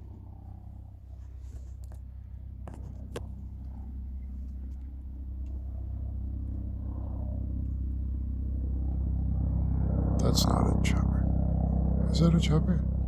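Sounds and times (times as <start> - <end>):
helicopter flying by: 0.0 - 13.0.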